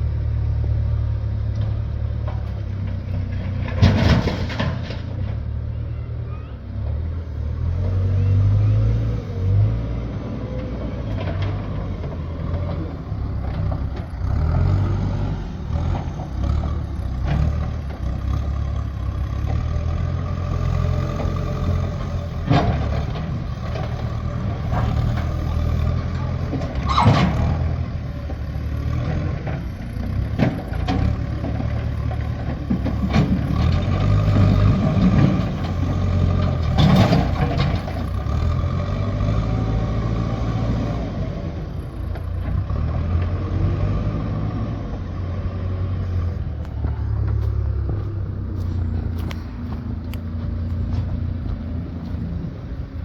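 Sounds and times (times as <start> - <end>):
heavy vehicle engine running: 0.0 - 53.0.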